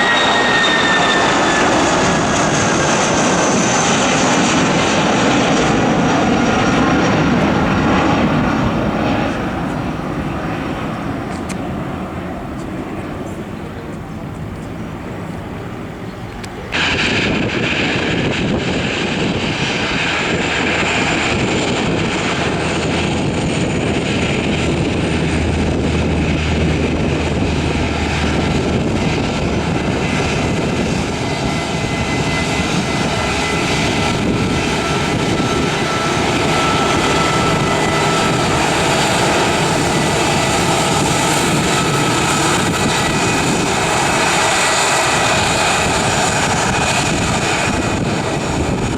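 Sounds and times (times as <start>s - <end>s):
aircraft engines running: 0.0s - 48.9s.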